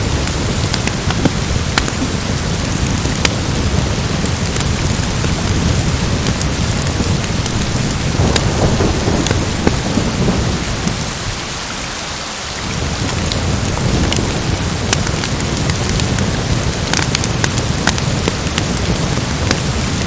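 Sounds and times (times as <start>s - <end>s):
rumble of thunder: 0.0s - 11.7s, 12.6s - 20.0s
heavy rain: 0.0s - 20.0s.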